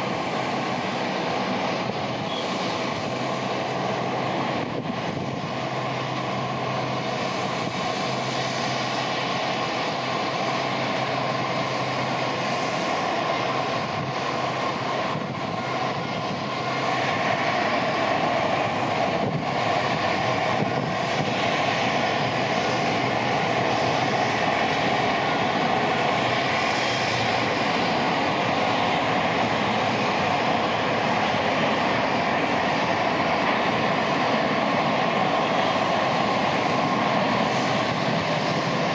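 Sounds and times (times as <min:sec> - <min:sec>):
jet engine rushing hum: 0:00.0 - 0:38.9.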